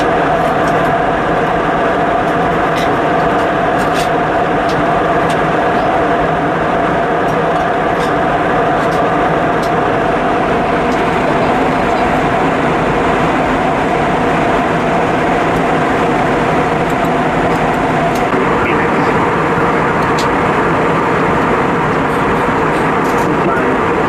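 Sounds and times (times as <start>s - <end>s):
airplane cabin drone: 0.0s - 24.0s
steady hum tone: 0.0s - 24.0s.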